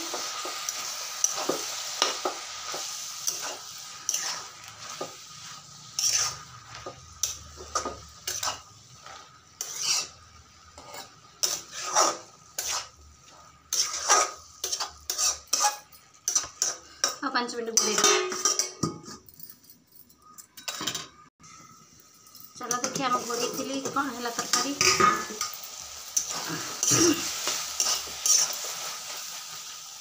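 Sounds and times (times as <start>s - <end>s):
metal spatula scraping a pan: 0.0s - 19.2s, 22.6s - 29.6s
light sizzle: 0.0s - 19.5s, 21.4s - 30.0s.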